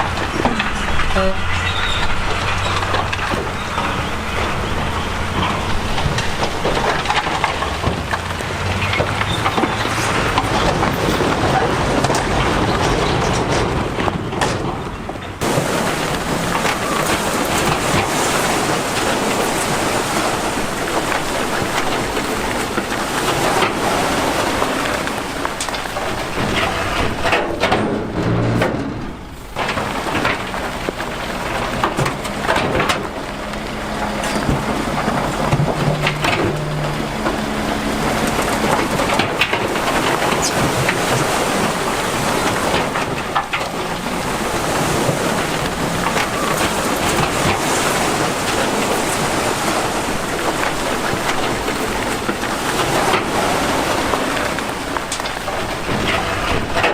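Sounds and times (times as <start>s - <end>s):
diesel engine: 0.0s - 56.9s
rocks tumbling and clattering: 0.0s - 56.9s.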